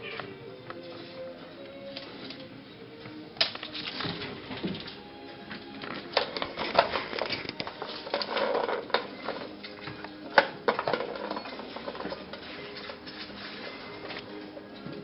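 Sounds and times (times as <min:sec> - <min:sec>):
soft music: 0:00.0 - 0:15.0.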